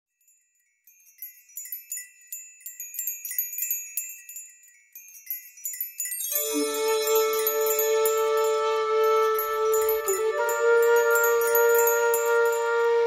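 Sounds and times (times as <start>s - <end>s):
high tinkling chimes: 0.1s - 13.0s.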